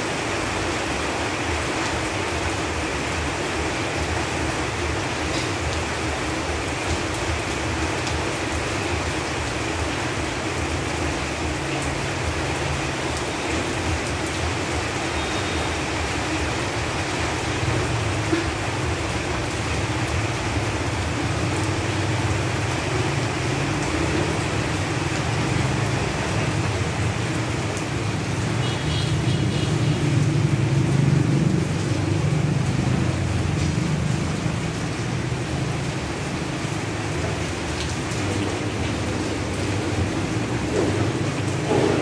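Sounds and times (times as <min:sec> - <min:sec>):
rain falling on leaves: 0:00.0 - 0:42.0.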